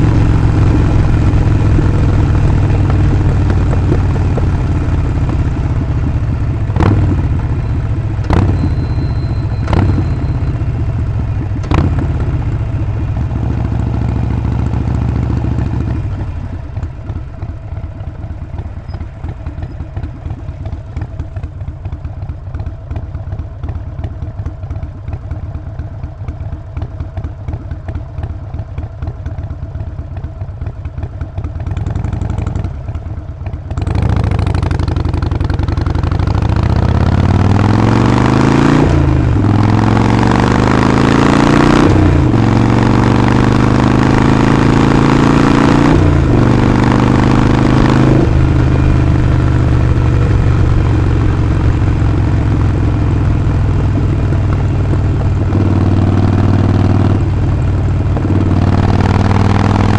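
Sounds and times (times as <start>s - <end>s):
motorcycle engine idling: 0.0s - 45.2s, 46.0s - 59.9s
motorcycle accelerating through gears: 0.0s - 59.9s.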